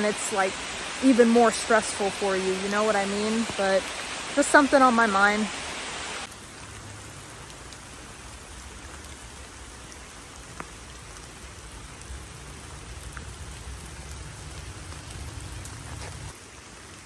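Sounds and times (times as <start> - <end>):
rain on leaves: 0.0 - 17.0.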